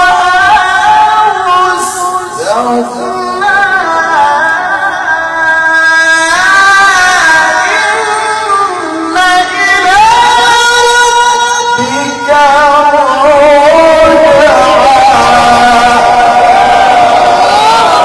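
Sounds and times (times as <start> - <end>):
man reciting melodically: 0.0 - 16.5.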